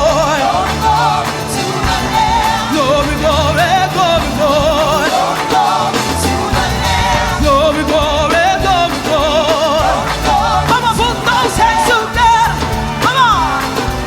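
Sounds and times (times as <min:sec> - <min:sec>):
band with bass and drums: 0:00.0 - 0:14.0
gospel singers with vibrato: 0:00.0 - 0:14.0.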